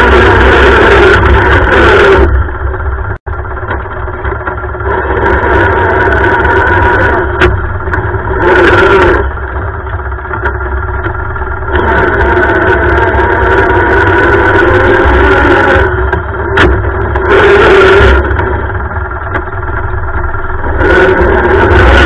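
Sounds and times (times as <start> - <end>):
lawn tractor engine revving: 0.0 - 22.0.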